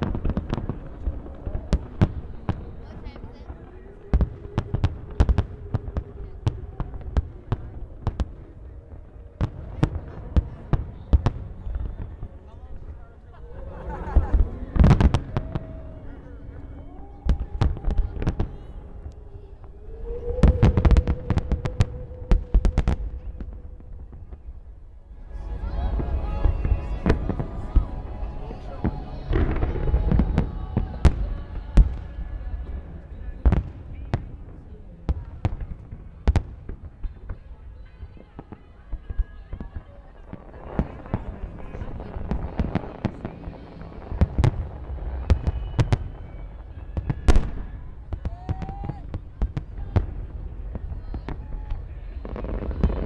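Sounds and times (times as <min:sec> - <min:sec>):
fireworks bangs and cracks: 0:00.0 - 0:12.4, 0:14.1 - 0:16.0, 0:17.1 - 0:24.6, 0:25.2 - 0:53.0.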